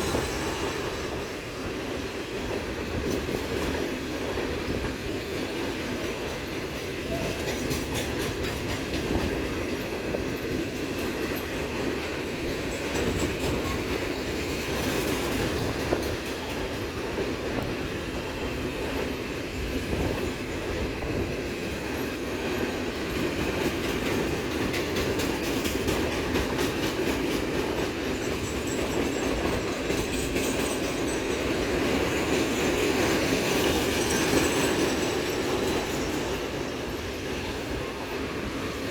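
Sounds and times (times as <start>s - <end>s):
wheels clicking over rail joints: 0.0s - 38.8s
train wheels rumbling on rails: 0.0s - 38.9s.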